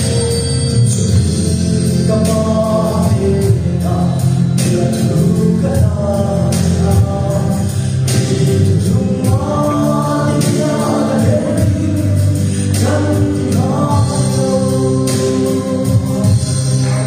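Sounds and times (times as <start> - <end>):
instrumental accompaniment: 0.0 - 17.0
man singing into microphone: 0.8 - 17.0.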